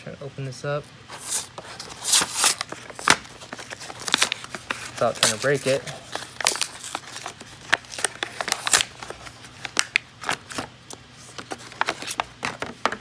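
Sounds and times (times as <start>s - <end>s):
plastic packaging crackling: 1.1s - 12.7s.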